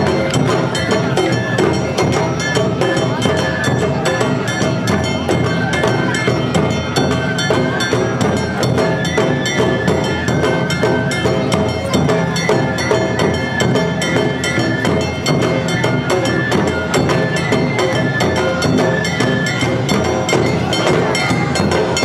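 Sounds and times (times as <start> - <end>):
bamboo flute melody: 0.0 - 22.0
drums beating: 0.0 - 22.0.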